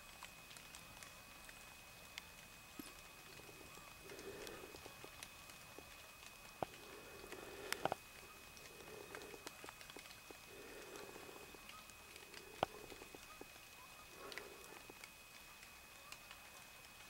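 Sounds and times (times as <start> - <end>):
faint steady high whine: 0.0 - 17.0
small clicks and snaps: 0.0 - 17.0.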